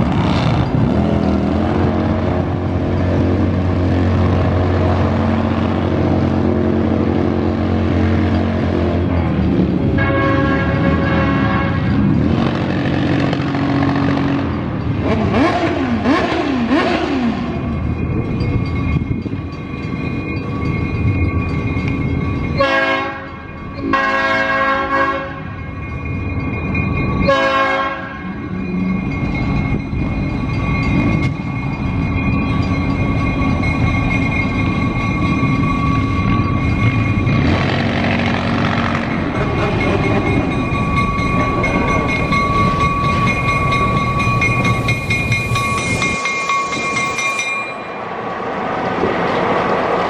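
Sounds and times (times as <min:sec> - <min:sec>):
train rumbling by: 0:00.0 - 0:50.0.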